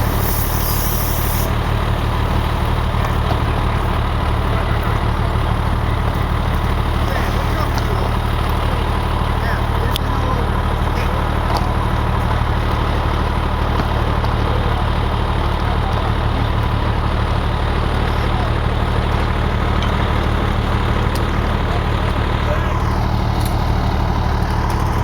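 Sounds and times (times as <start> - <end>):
diesel engine idling hum: 0.0 - 25.0.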